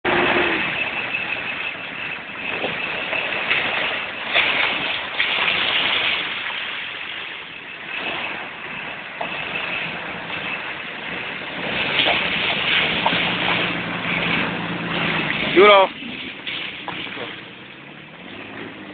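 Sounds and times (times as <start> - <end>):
vehicles driving over mud: 0.0 - 18.9.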